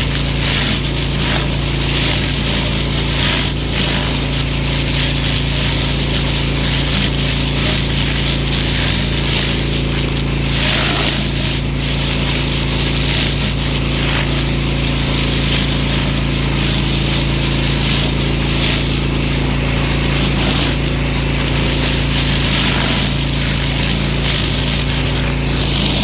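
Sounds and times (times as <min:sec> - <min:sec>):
pressure washer motor hum: 0:00.0 - 0:26.0
water jet hissing: 0:00.0 - 0:26.0.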